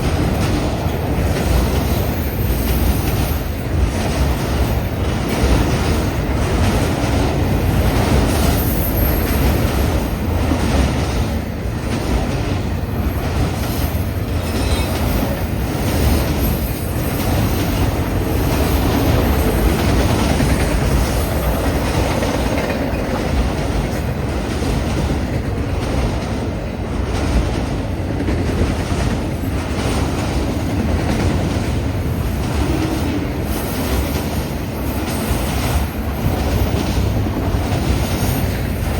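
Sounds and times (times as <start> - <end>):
train wheels rumbling on rail: 0.0 - 38.9
wheels clacking over rail joints: 0.0 - 38.9.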